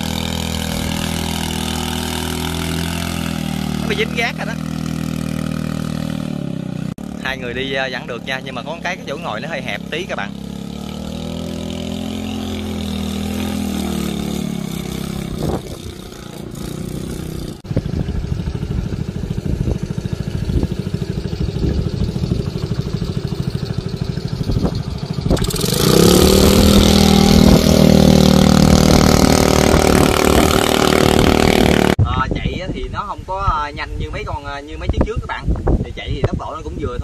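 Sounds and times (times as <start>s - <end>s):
speedboat engine: 0.0s - 32.0s.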